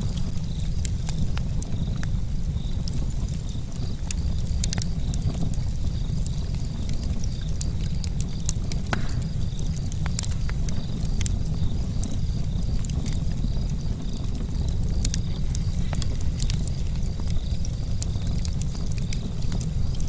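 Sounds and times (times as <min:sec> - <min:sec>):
fire crackling and popping: 0:00.0 - 0:20.0
fire low rumble: 0:00.0 - 0:20.0.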